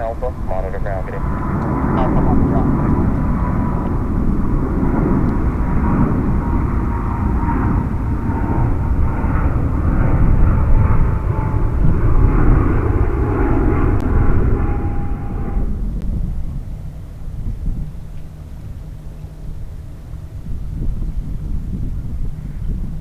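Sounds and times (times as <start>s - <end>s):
jet engines at takeoff: 0.0s - 23.0s.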